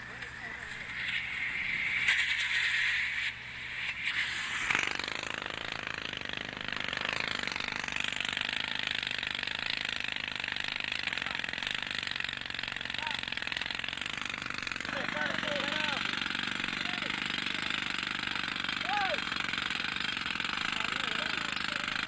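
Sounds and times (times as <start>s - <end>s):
jackhammer hammering: 0.0s - 22.0s.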